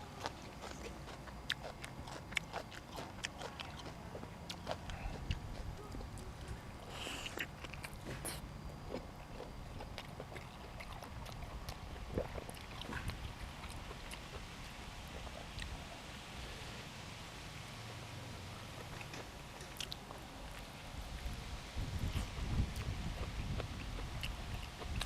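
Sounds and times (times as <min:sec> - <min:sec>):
low steady hum: 0:00.0 - 0:25.0
person chewing: 0:00.1 - 0:15.8, 0:18.8 - 0:20.7, 0:22.0 - 0:25.0.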